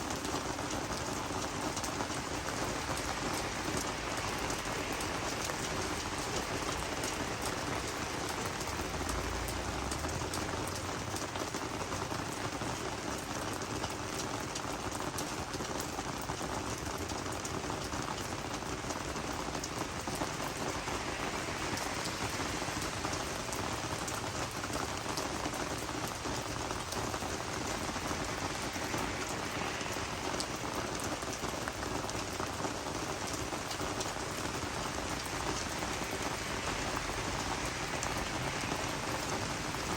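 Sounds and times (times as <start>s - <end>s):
rain pattering on plants: 0.0s - 39.9s.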